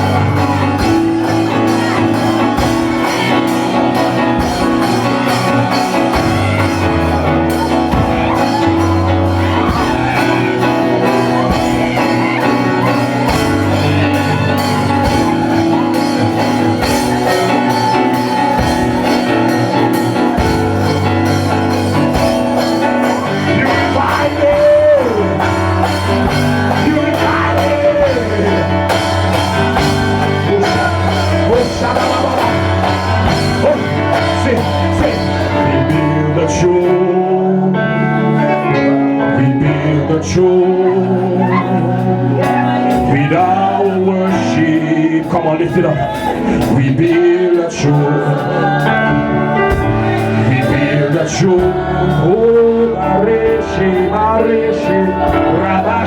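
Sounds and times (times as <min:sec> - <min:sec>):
person singing: 0:00.0 - 0:56.0
worship band music: 0:00.0 - 0:56.0.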